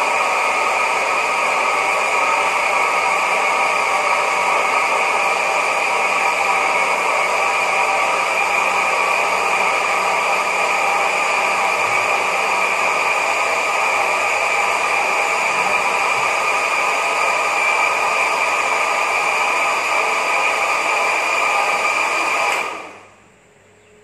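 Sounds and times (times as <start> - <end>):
electric blender running: 0.0 - 23.1.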